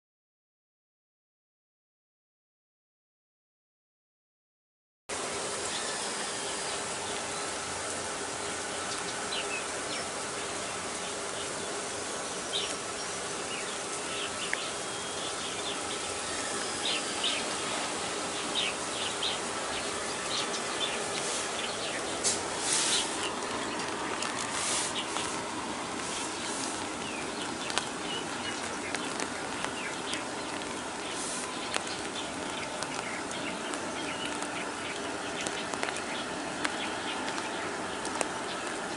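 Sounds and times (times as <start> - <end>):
steady outdoor hiss: 5.1 - 38.9
small birds chirping: 5.6 - 38.9.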